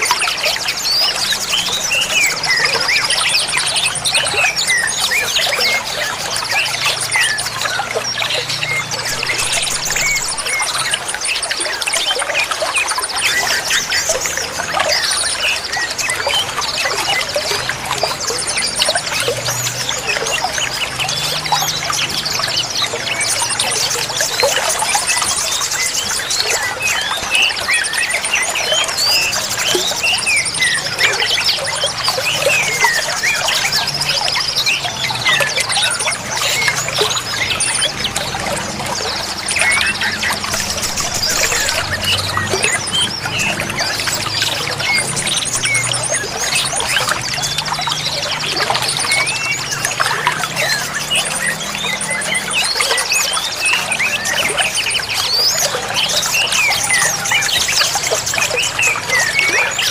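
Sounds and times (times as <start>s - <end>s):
running water: 0.0s - 59.9s
small birds chirping and trilling: 0.0s - 59.9s.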